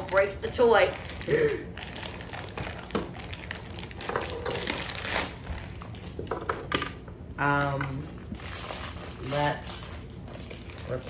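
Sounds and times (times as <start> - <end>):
plastic wrapper crinkling: 0.0 - 6.4, 8.1 - 11.0.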